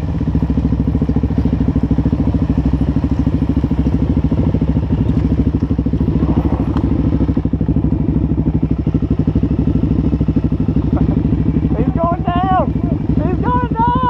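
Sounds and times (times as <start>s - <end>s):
motorcycle engine running at low revs: 0.0s - 14.0s.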